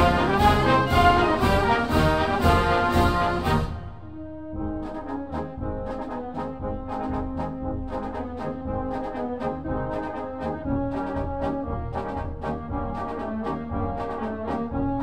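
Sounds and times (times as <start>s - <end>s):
brass music with percussion beat: 0.0s - 15.0s.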